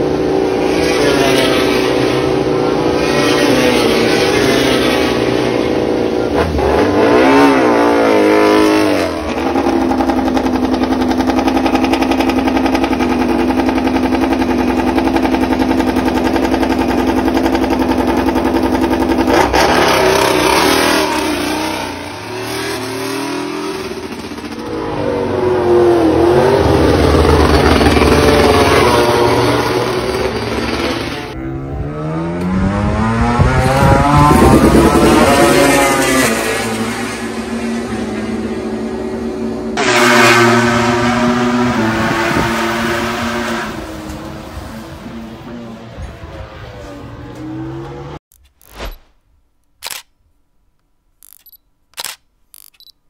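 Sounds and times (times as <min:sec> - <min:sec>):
race motorcycle engines revving: 0:00.0 - 0:48.2.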